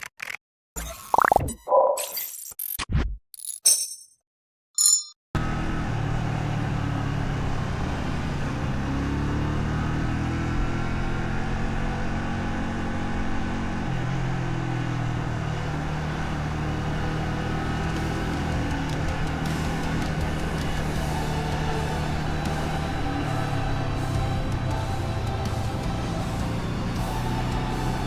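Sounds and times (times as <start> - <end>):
motorcycle engine running: 5.4 - 28.0
road and wind noise: 5.4 - 28.0.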